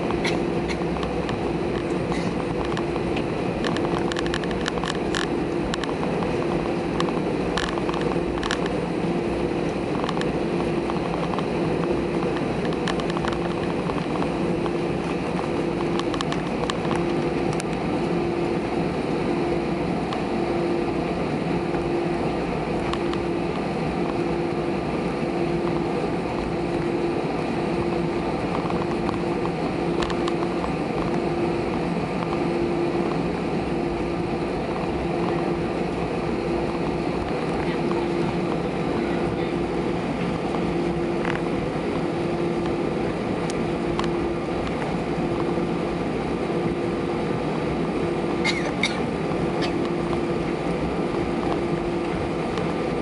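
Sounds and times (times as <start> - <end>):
jet engines hum and rush: 0.0 - 53.0.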